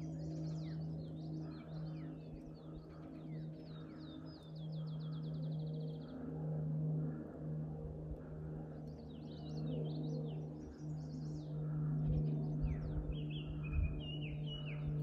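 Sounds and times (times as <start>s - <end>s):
songbirds singing: 0.0s - 15.0s
steady low hum: 0.0s - 15.0s.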